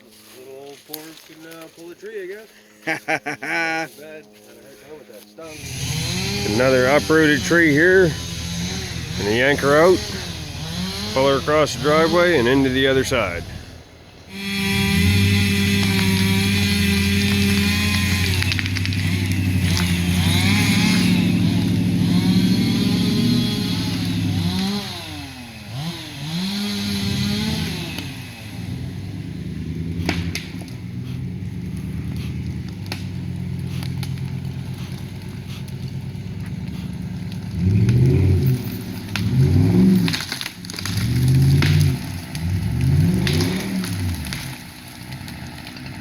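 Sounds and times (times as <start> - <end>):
truck engine revving under load: 5.5 - 46.0.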